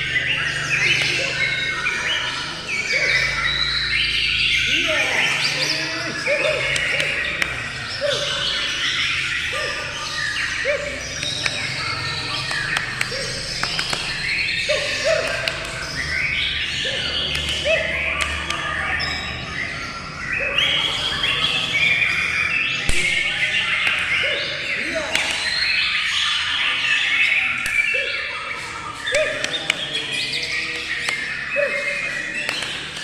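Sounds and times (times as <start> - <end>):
songbirds chorus: 0.0 - 33.0.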